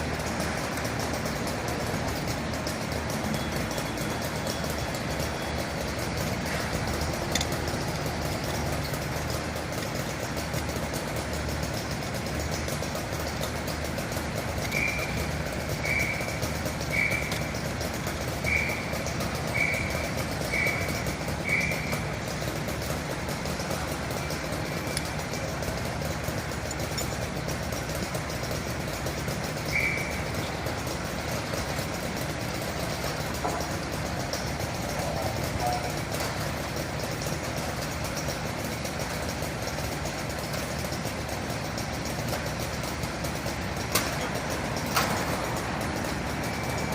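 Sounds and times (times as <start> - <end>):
fire truck engine idling: 0.0 - 46.9.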